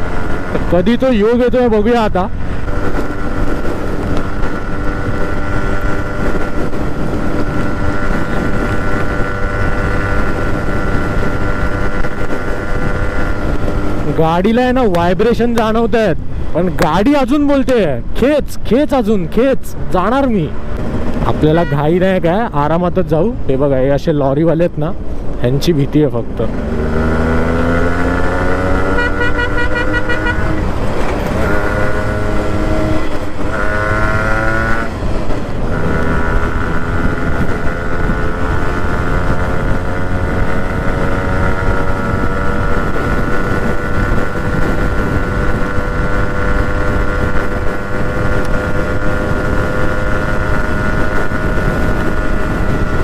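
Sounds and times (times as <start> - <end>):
motorcycle engine accelerating: 0.0 - 16.6, 26.3 - 53.0
road rumble: 0.0 - 53.0
wind: 0.0 - 53.0.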